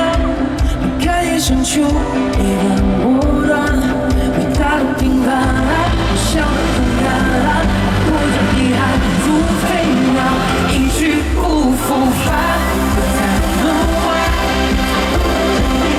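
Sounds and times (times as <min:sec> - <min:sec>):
live pop music: 0:00.0 - 0:15.9
person singing: 0:00.0 - 0:15.9.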